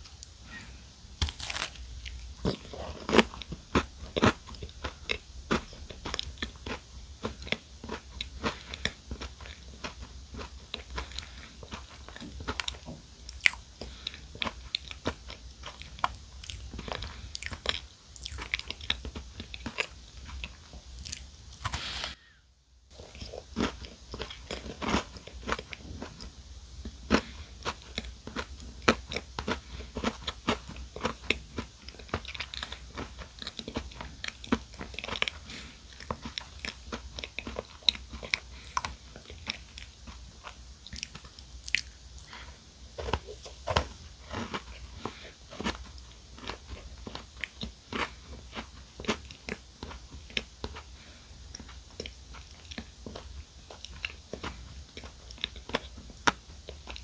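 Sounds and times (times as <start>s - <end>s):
chewing chocolate cupcake: 1.2s - 22.0s, 22.9s - 57.0s.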